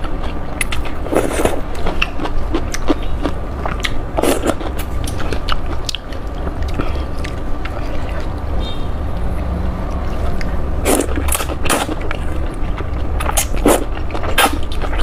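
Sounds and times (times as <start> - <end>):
low hum: 0.0 - 15.0
person chewing noodles: 0.0 - 15.0.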